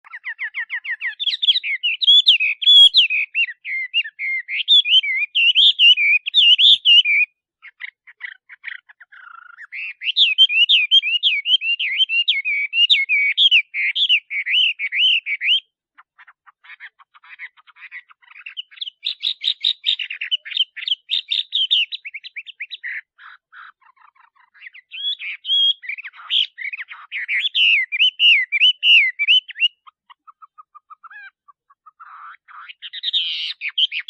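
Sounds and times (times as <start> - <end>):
bird singing whistled notes: 0.0 - 8.4, 9.0 - 15.8, 17.3 - 34.0.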